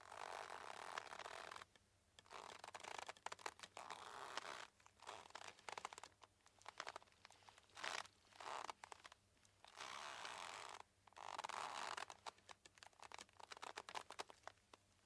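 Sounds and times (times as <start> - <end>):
mooring ropes creaking: 2.3 - 14.4.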